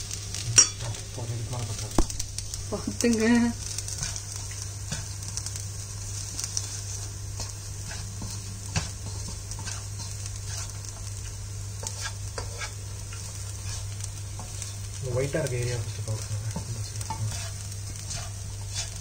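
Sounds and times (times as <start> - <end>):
rice sizzling in a pan: 0.0 - 19.0
spatula scraping a pan: 3.6 - 19.0.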